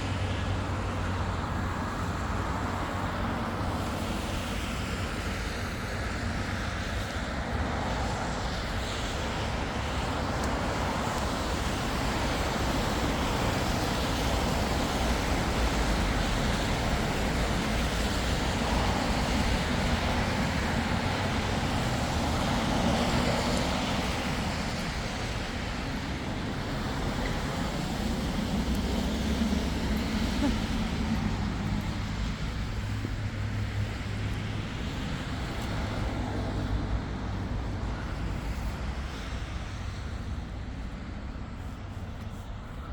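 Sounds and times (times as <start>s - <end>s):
passing cars road noise: 0.0s - 42.9s.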